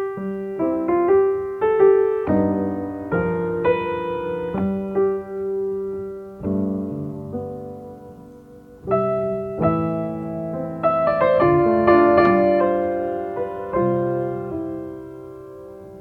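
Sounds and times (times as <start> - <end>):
slow piano notes and chords: 0.0 - 16.0.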